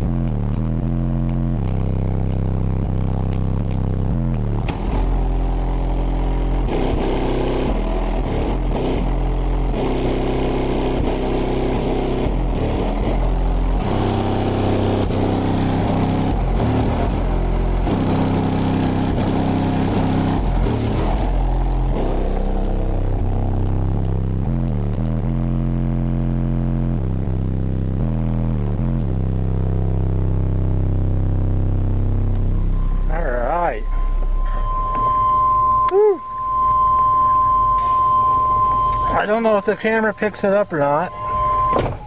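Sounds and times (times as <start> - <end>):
bass-heavy song through car speakers: 0.0 - 42.0.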